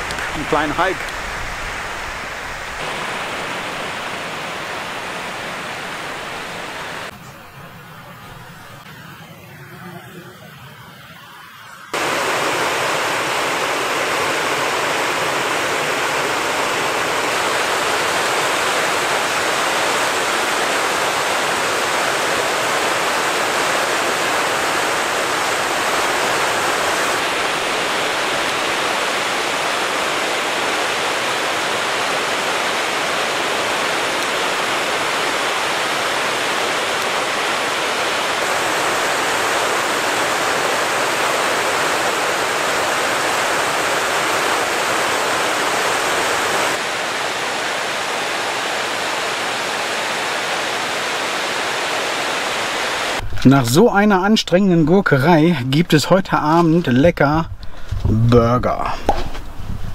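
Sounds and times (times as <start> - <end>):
rushing water: 0.0 - 9.2, 10.4 - 57.3.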